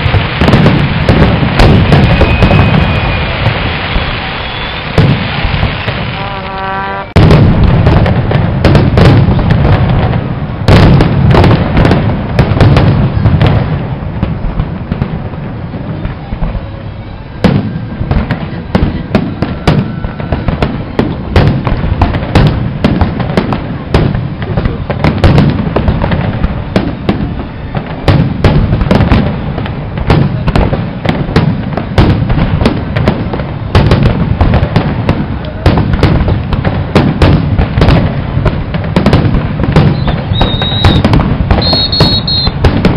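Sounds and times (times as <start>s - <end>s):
fireworks booming and crackling: 0.0s - 42.9s.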